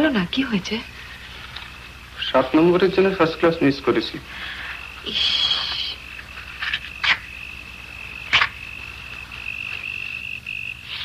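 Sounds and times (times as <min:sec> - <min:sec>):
insect buzzing call: 0:00.0 - 0:11.0
insect chorus trilling: 0:00.0 - 0:11.0.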